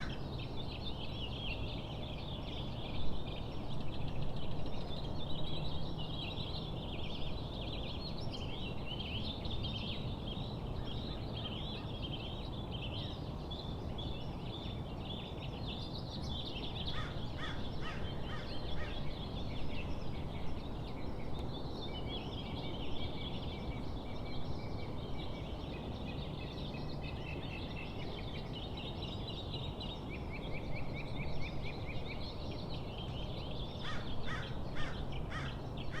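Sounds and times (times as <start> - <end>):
many birds chirping and singing: 0.0 - 36.0.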